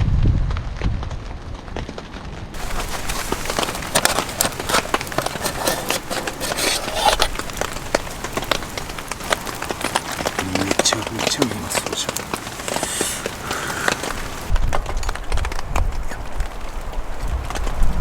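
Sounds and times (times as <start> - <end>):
rain falling on a surface: 0.0 - 18.0.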